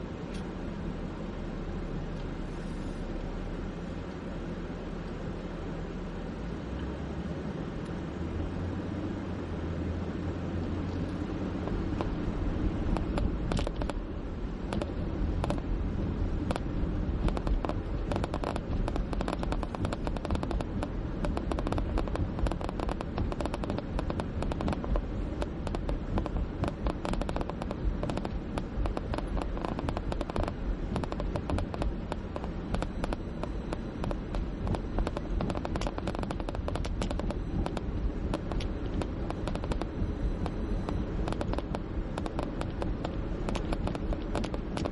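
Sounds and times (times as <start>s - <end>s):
car road and engine noise: 0.0s - 44.9s
tires clicking on rough pavement: 0.0s - 44.9s.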